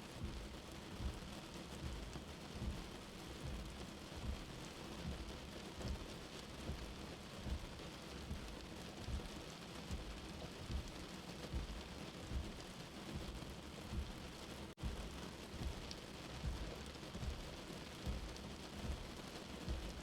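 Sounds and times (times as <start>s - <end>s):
steady rain: 0.0s - 20.0s
low heartbeat thump: 0.2s - 20.0s.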